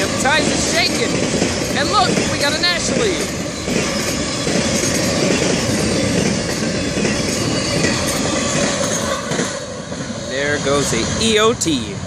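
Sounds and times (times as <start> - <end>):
freight train wheels rumbling and clattering: 0.0 - 12.0.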